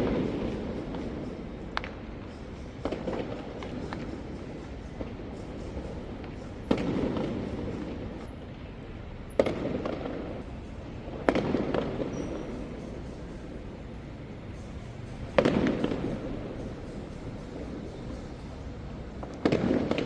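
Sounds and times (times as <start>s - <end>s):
fireworks bangs: 0.0s - 8.2s, 9.3s - 18.6s, 19.2s - 20.0s.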